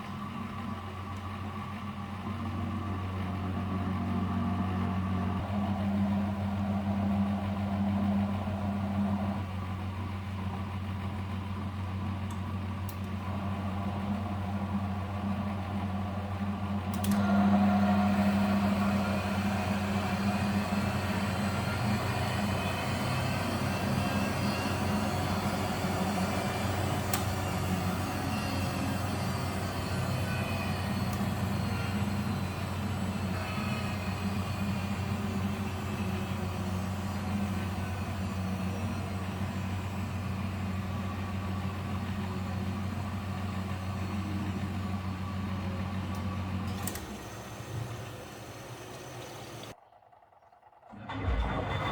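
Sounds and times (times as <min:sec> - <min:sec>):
washing machine humming: 0:00.0 - 0:49.8, 0:50.9 - 0:51.9
washing machine rushing noise: 0:00.0 - 0:49.8, 0:50.9 - 0:51.9.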